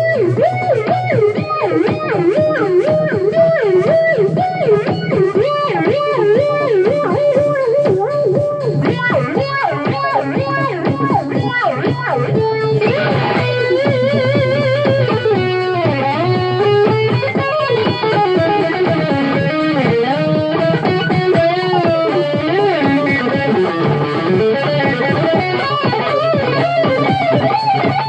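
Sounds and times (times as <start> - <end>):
electric guitar lead melody: 0.0 - 28.0
low backing music: 0.0 - 28.0.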